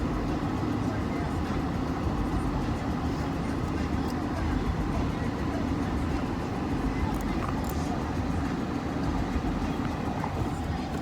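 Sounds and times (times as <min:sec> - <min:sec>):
vehicle rumble from inside: 0:00.0 - 0:11.0.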